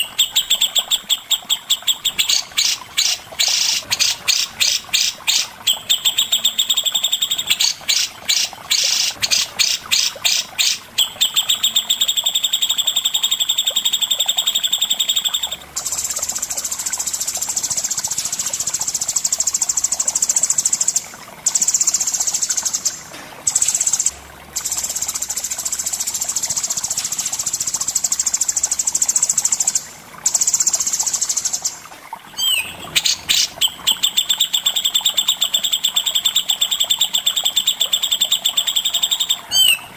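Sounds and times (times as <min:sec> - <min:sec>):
birds singing sharp repeated notes: 0:00.0 - 0:39.9.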